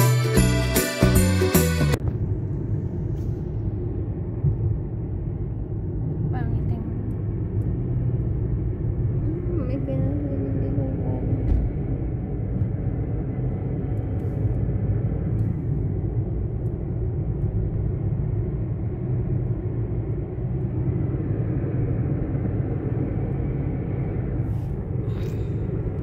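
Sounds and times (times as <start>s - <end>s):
engine and tyre rumble in car: 1.9s - 26.0s.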